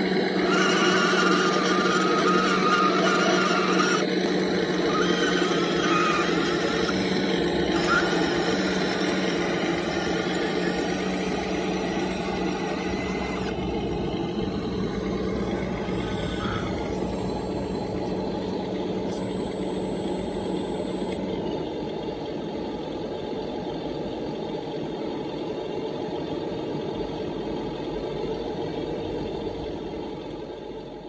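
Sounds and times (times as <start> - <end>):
hydraulic pump hum and whine: 0.0 - 31.0.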